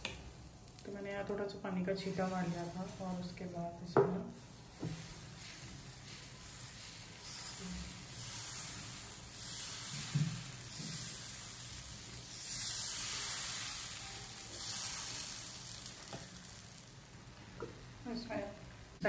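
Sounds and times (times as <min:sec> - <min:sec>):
batter sizzling on pan: 0:00.0 - 0:18.5.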